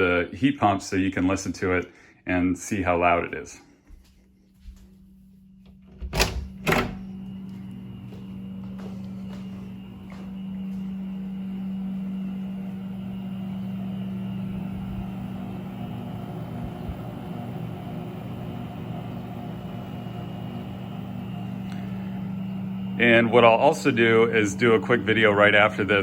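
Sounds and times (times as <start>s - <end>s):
heat pump humming: 3.8s - 26.0s.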